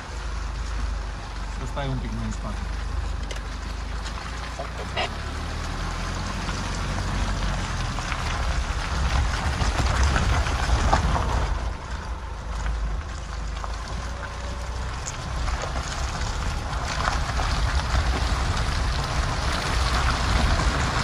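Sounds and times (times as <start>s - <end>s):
small crackles: 0.0s - 21.0s
vehicle engine rumble: 0.0s - 21.0s.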